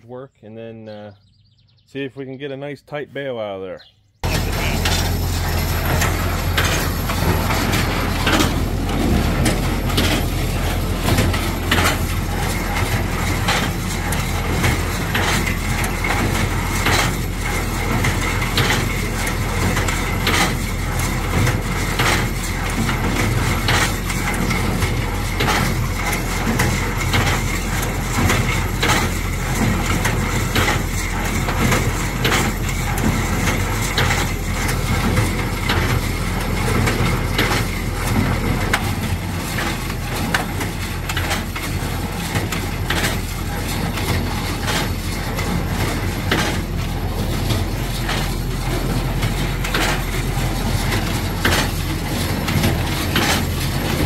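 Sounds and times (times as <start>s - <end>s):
tractor diesel engine: 4.2s - 54.0s.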